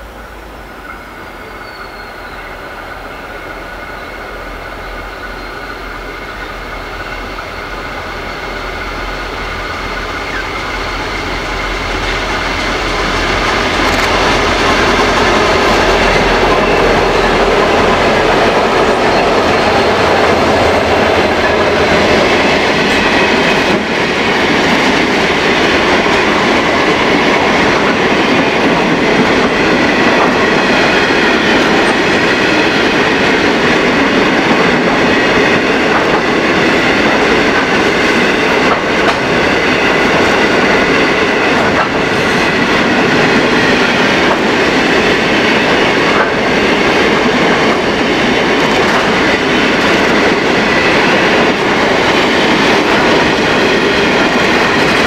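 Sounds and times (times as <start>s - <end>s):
diesel locomotives passing: 0.0s - 55.0s.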